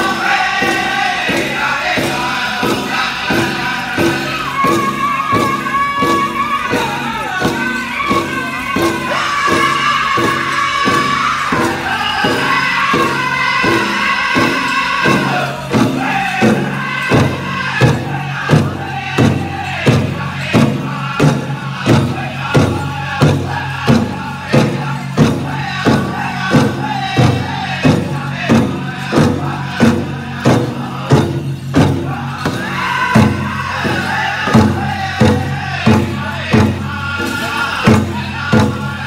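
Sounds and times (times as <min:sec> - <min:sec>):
heavy bass drum beat: 0:00.0 - 0:39.0
high-pitched group singing: 0:00.0 - 0:39.0.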